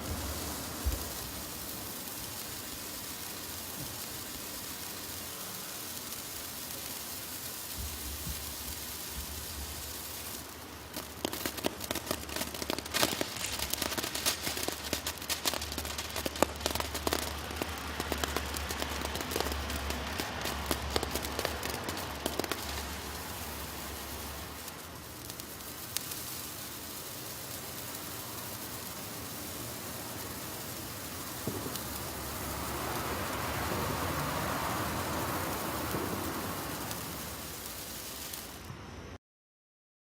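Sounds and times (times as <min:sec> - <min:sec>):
sparklers fizzing and crackling: 0:00.0 - 0:39.1.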